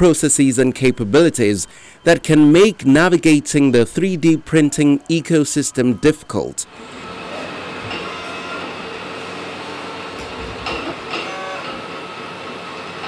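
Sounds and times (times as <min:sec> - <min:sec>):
steady mechanical whir: 0:00.8 - 0:13.0
stepper motor whines: 0:02.4 - 0:13.0.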